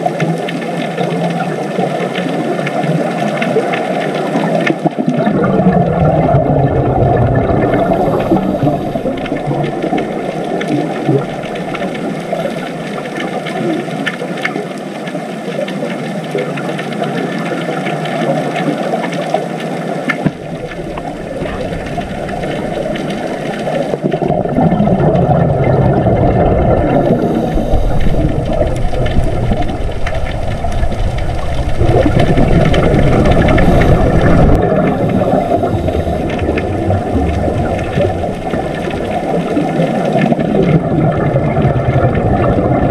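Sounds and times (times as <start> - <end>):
underwater rush of water: 0.0 - 42.9.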